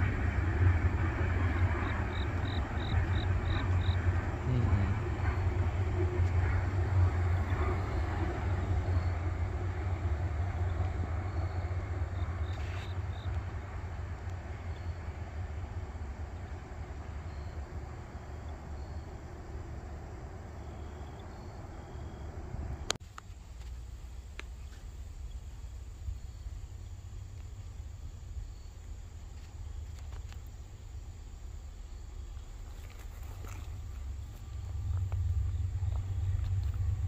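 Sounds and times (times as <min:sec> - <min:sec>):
freight train rumbling: 0:00.0 - 0:23.0, 0:25.2 - 0:37.0
insect chirps: 0:01.3 - 0:05.5, 0:07.2 - 0:37.0.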